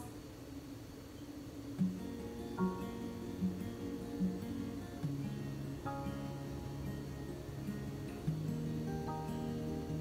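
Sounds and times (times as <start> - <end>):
soft plucked-string music: 1.7 - 10.0.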